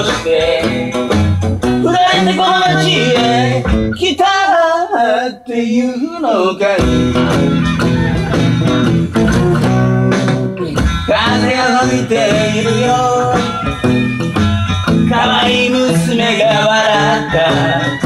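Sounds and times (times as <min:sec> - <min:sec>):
acoustic guitar strumming: 0:00.0 - 0:04.2, 0:06.8 - 0:18.0
man singing: 0:00.0 - 0:07.5, 0:09.3 - 0:13.8, 0:15.0 - 0:18.0.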